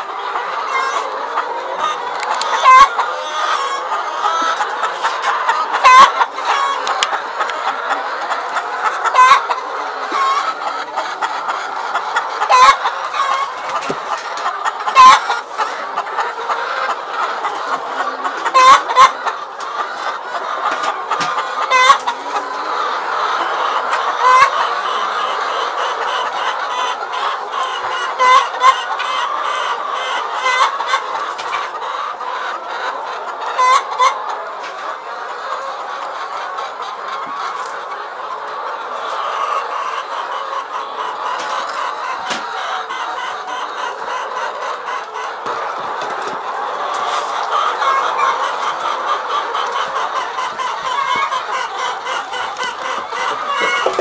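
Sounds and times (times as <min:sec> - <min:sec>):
hens clucking: 0:00.0 - 0:54.0
sharp hen calls: 0:00.2 - 0:34.7, 0:35.4 - 0:54.0.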